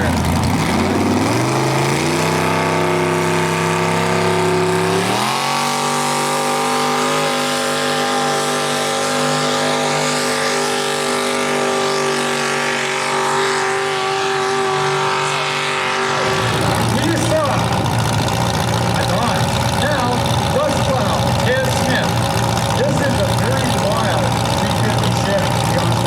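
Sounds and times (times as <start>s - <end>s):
tractor engine revving high: 0.0s - 26.0s.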